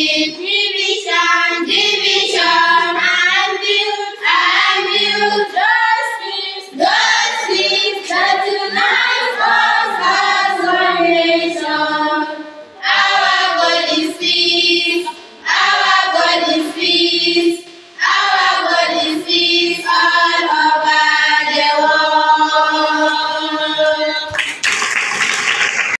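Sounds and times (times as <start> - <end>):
girls singing in unison: 0.0 - 24.3.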